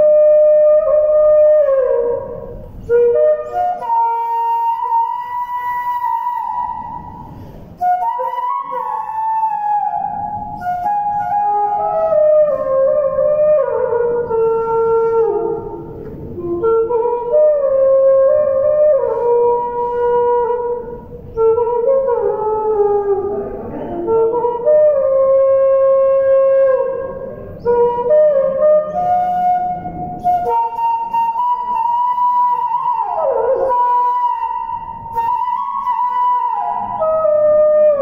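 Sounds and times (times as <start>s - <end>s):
bamboo flute melody: 0.0s - 38.0s.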